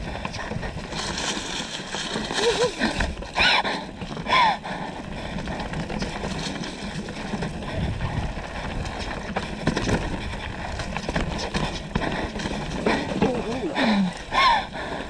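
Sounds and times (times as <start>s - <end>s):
bike knocks and rattles: 0.0s - 14.6s
tyre noise on dirt: 0.0s - 14.8s
wind rush on microphone: 0.0s - 15.0s.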